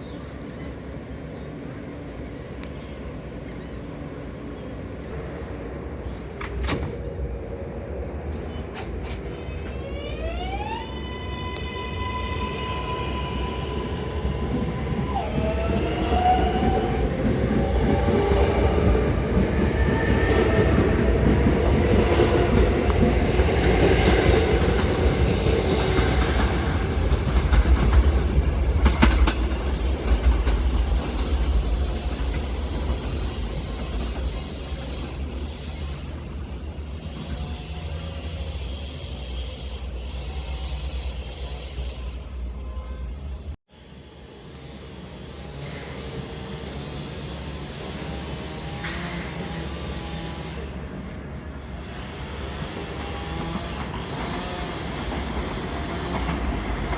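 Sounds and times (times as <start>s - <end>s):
subway train pulling away: 0.0s - 56.9s.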